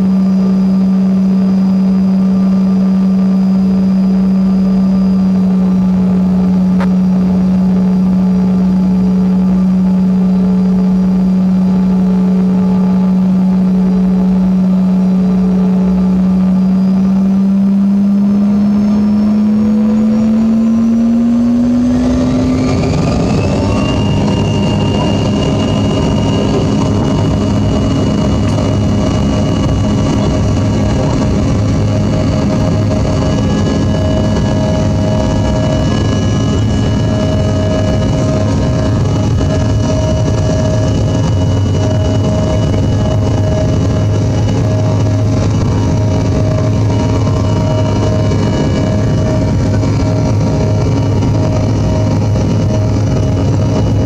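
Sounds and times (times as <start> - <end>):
jet engines droning: 0.0 - 54.0
jet engines spooling up whine: 0.0 - 54.0.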